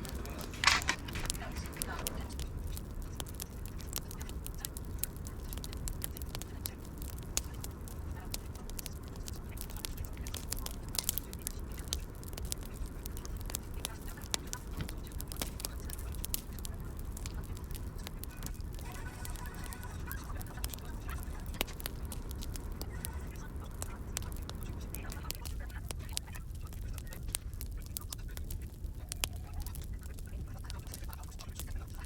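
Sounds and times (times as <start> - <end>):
steady low rumble: 0.0 - 32.0
wood fire crackling: 0.0 - 32.0.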